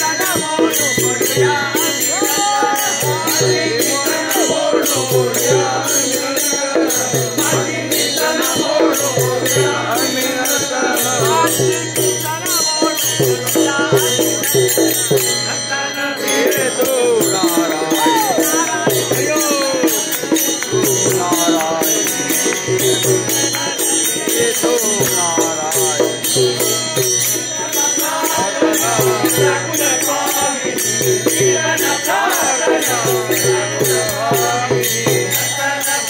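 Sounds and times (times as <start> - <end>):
hand cymbals struck in rhythm: 0.0 - 36.0
men singing together: 0.0 - 36.0.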